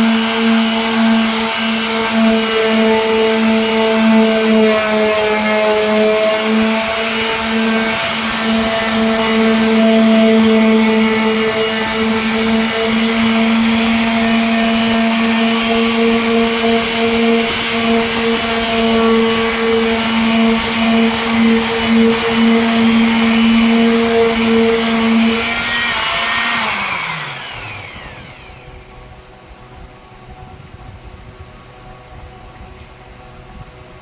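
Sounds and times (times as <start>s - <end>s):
sanding hiss: 0.0s - 27.4s
electric sander running: 0.0s - 32.6s.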